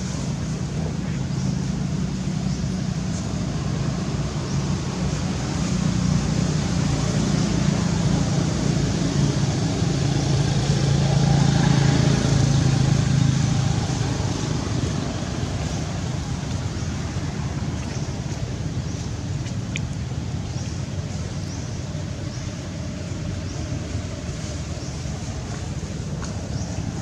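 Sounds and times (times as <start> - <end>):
engine low hum: 0.0 - 27.0.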